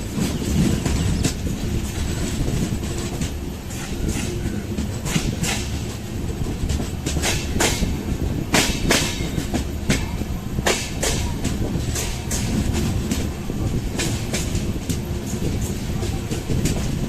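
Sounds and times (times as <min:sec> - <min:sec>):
train rolling past: 0:00.0 - 0:17.0
train wheels clicking over rail joints: 0:00.0 - 0:17.0.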